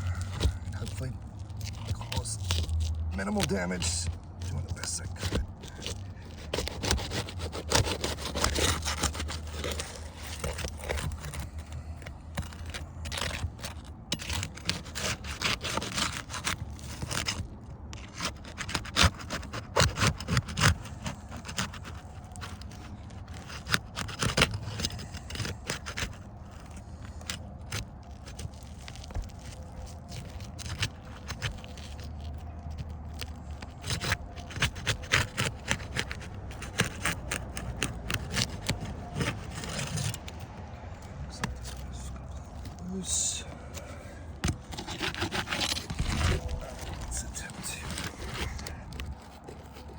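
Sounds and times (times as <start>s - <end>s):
shingles being pried and scraped: 0.0s - 49.9s.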